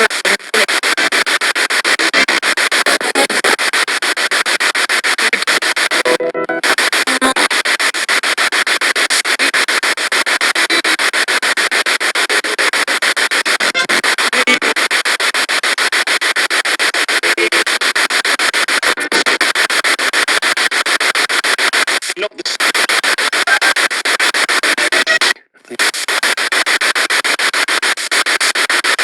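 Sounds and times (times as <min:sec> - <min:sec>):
radio static chopping: 0:00.0 - 0:29.0.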